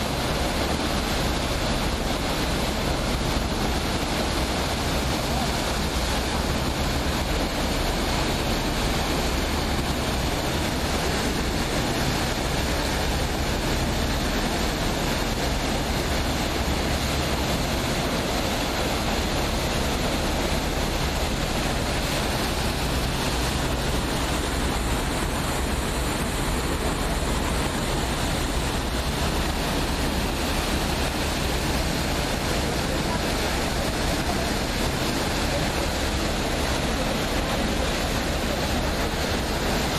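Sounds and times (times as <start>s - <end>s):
boat engine hum: 0.0s - 39.9s
rushing water and wind: 0.0s - 39.9s.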